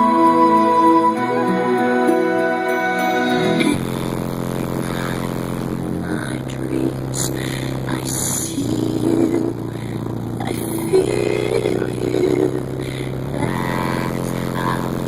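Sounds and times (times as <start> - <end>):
bass-heavy song on car stereo: 0.0 - 15.0.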